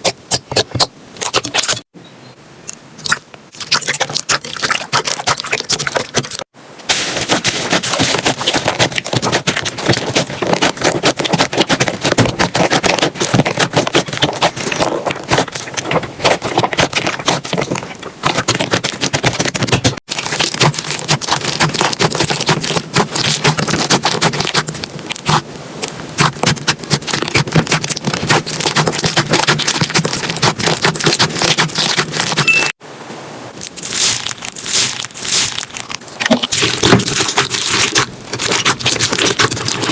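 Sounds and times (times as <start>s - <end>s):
slime squeezed crackling: 3.0s - 32.6s, 33.6s - 39.9s.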